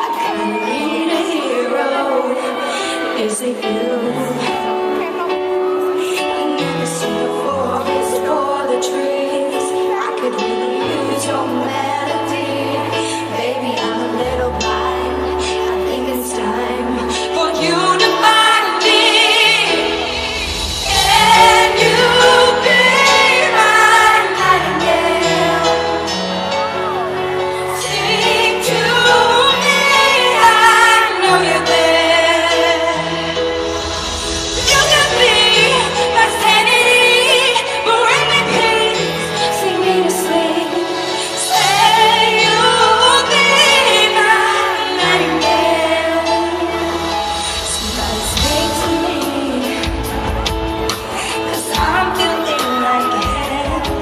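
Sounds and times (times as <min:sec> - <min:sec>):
woman singing pop ballad: 0:00.0 - 0:54.0
band accompaniment with bass: 0:04.2 - 0:54.0.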